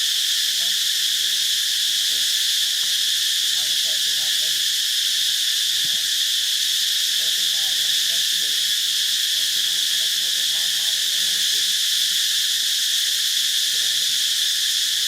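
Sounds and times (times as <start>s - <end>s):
insects chirping chorus: 0.0s - 15.0s.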